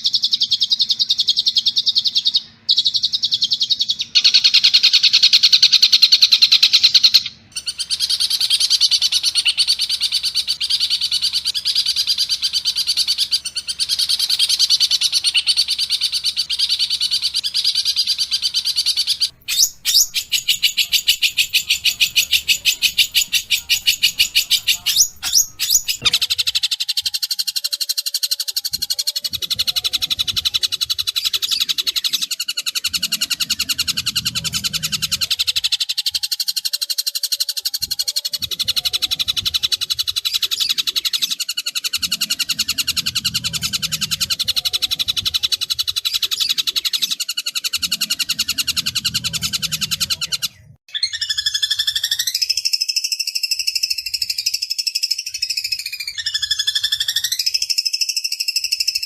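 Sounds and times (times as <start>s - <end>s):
bird whistled call: 0.0s - 59.0s.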